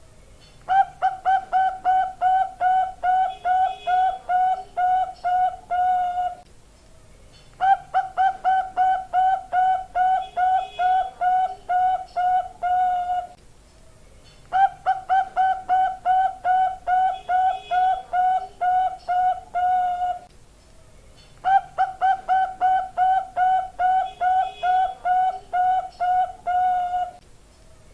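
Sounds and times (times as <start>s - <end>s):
dove cooing: 0.7s - 6.4s, 7.6s - 13.4s, 14.5s - 20.3s, 21.4s - 27.2s.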